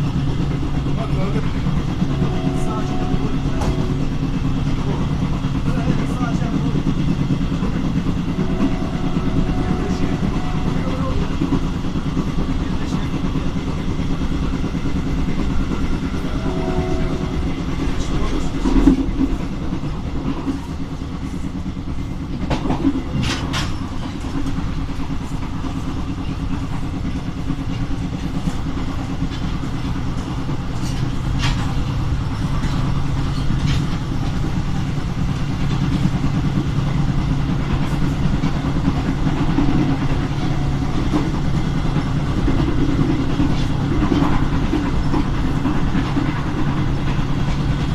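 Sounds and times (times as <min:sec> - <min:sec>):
low diesel drone: 0:00.0 - 0:47.9
train wheels rumbling on rails: 0:00.0 - 0:47.9
wheels clacking over rail joints: 0:00.0 - 0:47.9.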